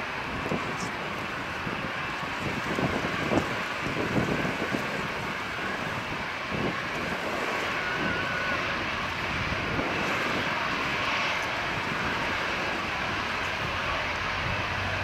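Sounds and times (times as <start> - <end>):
airliner jet engine whine: 0.0 - 15.0.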